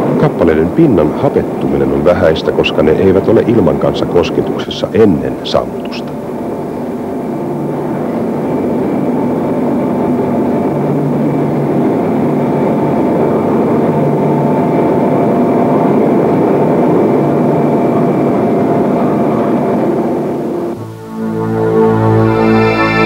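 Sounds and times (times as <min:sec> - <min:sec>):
machinery rumble: 0:00.0 - 0:23.0
steady humming tones: 0:00.0 - 0:23.0.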